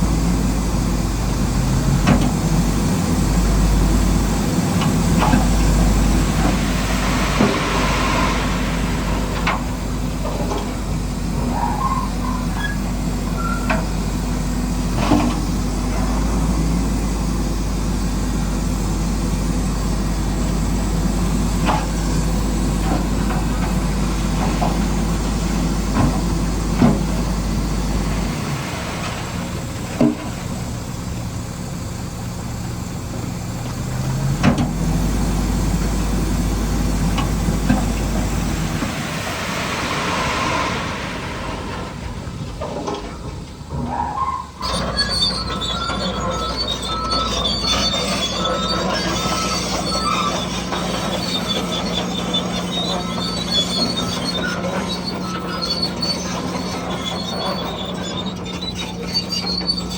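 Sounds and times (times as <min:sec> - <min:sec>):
construction machine engine droning: 0:00.0 - 0:59.9.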